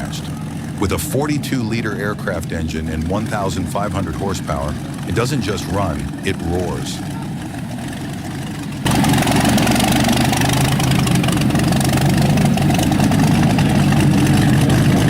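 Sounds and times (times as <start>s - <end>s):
aircraft engine running loud: 0.0s - 15.0s
quieter engine sound: 0.0s - 15.0s.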